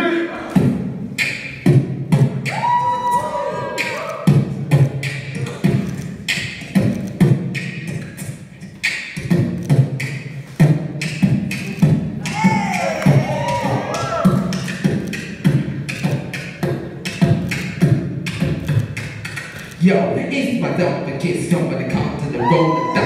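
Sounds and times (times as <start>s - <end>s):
beatboxing kick and snare: 0.5s - 23.0s.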